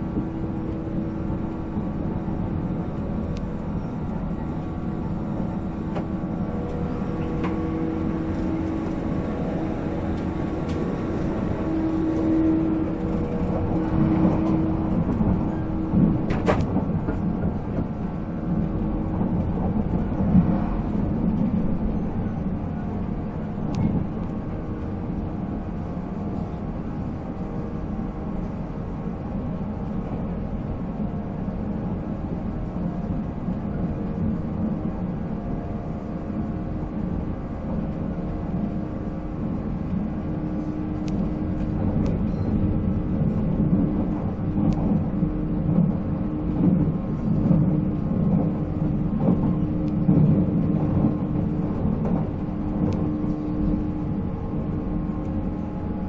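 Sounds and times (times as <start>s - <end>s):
electric train motors humming: 0.0s - 56.0s
wheels rumbling on rail: 0.0s - 56.0s.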